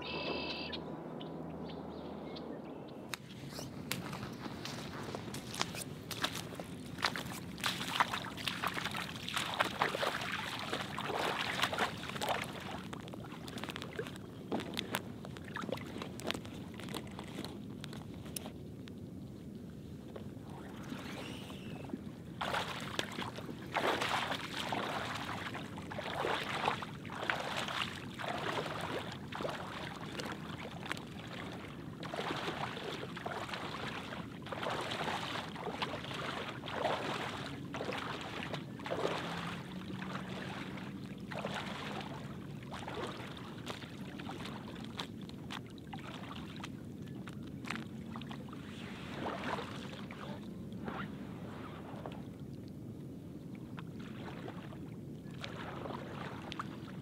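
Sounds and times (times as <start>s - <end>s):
water splashing from wading: 3.1s - 17.5s, 20.5s - 52.4s, 53.8s - 57.0s.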